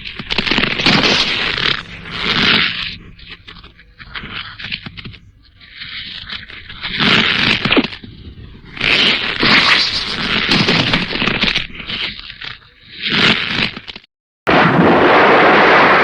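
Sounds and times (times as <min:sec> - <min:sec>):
harsh crackling noise bursts: 0:00.0 - 0:16.0
scraping crackle: 0:00.0 - 0:16.0.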